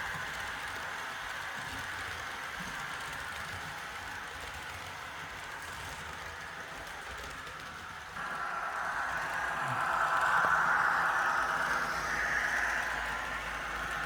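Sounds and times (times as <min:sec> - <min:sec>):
model train rolling on track: 0:00.0 - 0:14.0.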